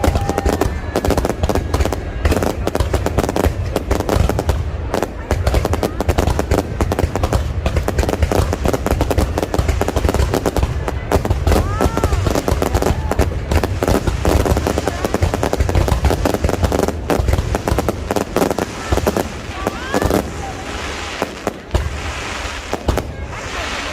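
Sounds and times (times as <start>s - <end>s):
crowd voices: 0.0s - 23.9s
fireworks bangs and crackles: 0.0s - 23.9s.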